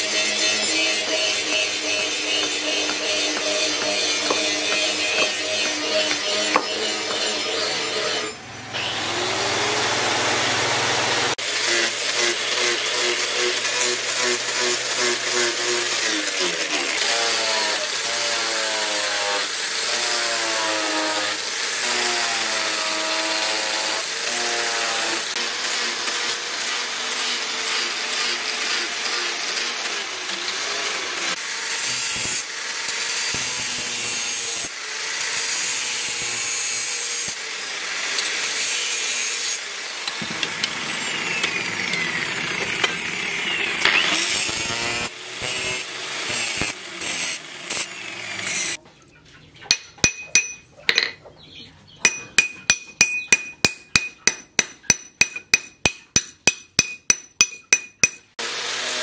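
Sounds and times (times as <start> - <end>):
angle grinder sanding wood: 0.0 - 48.8.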